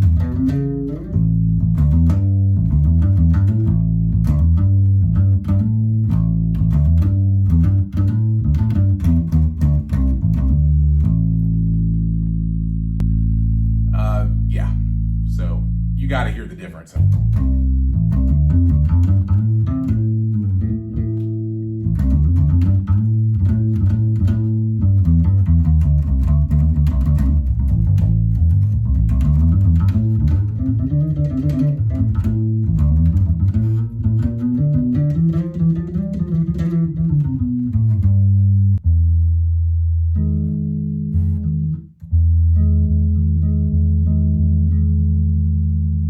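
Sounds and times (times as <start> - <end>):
electric bass plucked notes: 0.0 - 46.0.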